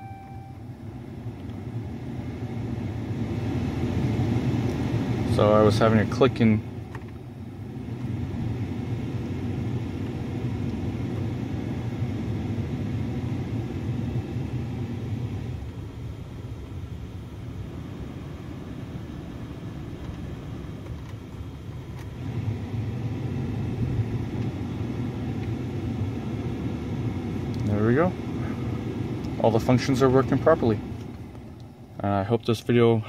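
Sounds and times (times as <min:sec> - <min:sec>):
engine idling: 0:00.0 - 0:33.0
heater blower running: 0:00.0 - 0:33.0.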